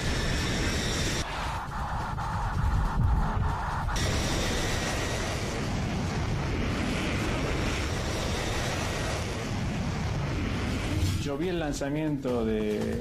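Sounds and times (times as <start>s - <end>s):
jet aircraft flying low: 0.0s - 11.8s.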